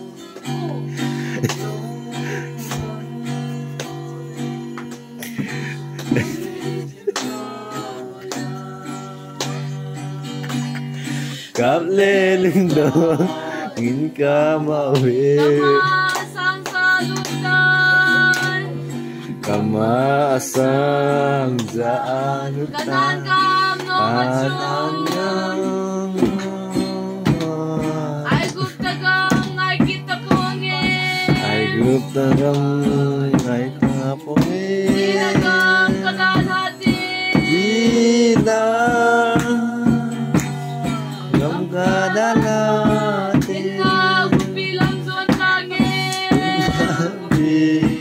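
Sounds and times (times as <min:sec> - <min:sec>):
strummed acoustic guitar: 0:00.0 - 0:48.0
group singing: 0:01.4 - 0:03.8, 0:06.1 - 0:18.7, 0:19.4 - 0:48.0
percussive beats: 0:08.2 - 0:48.0.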